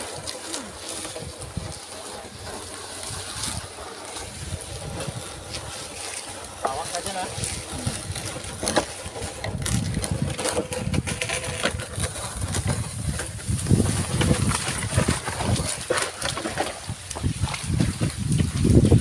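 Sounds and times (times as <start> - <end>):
wooden sled scraping over ground: 0.0 - 19.0.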